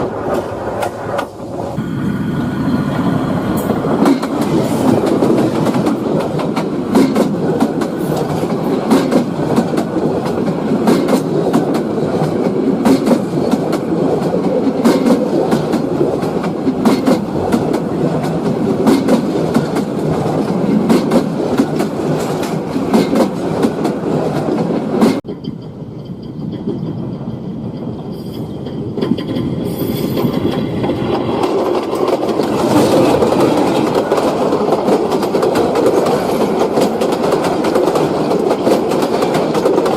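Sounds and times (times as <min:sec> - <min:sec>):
train wheels clattering on track: 0:00.0 - 0:39.9.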